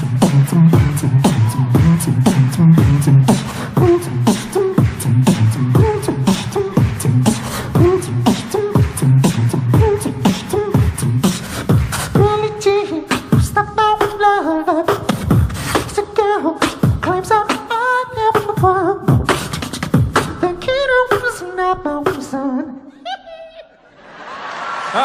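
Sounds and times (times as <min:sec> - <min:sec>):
person beatboxing: 0:00.0 - 0:22.4.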